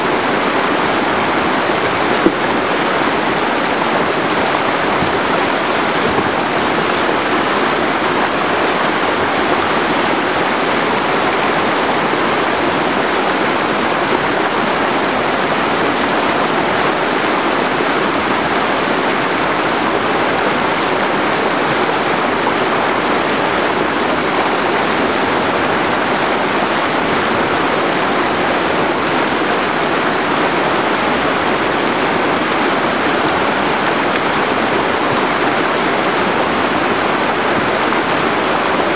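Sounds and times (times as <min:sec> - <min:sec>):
whitewater rapid rushing: 0:00.0 - 0:38.9.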